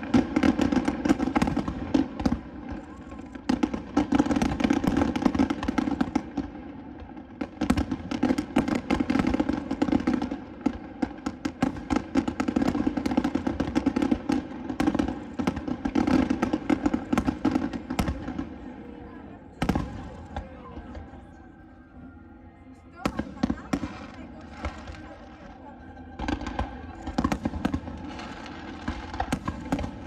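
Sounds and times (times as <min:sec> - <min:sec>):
fireworks bangs and crackling: 0:00.0 - 0:21.4, 0:23.0 - 0:30.0.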